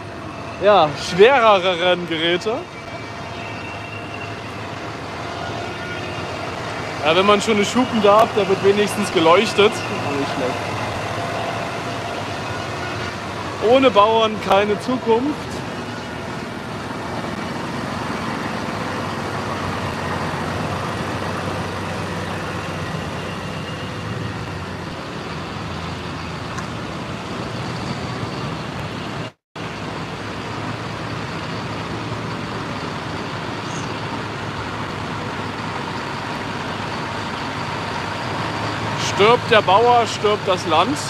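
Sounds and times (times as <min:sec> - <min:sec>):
vehicles driving on wet road: 0:00.0 - 0:41.0.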